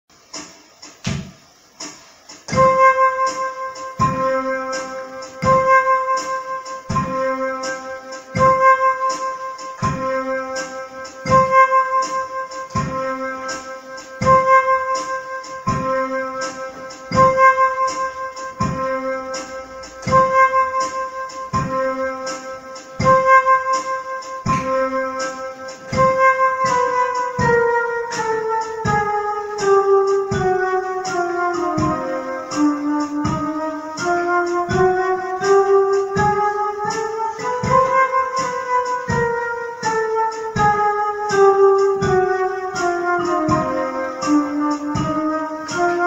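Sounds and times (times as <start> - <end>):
electric piano looping figure: 0.2 - 46.0.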